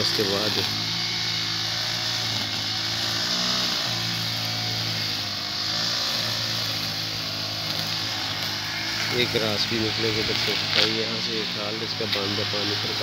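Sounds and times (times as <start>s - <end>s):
brush cutter engine cutting grass: 0.0s - 13.0s.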